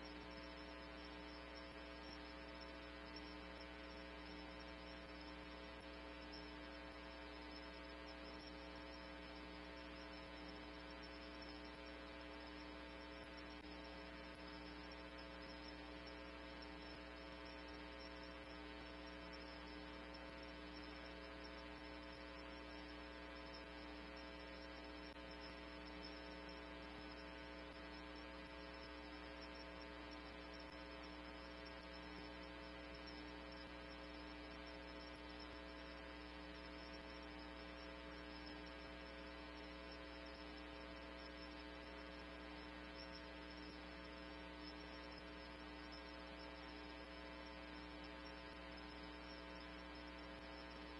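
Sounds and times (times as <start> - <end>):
faint electrical hum: 0.0 - 50.9.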